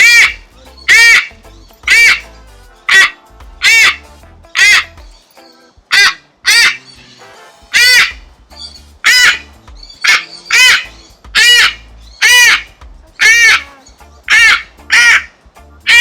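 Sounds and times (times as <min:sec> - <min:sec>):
parrot screaming: 0:00.0 - 0:16.0.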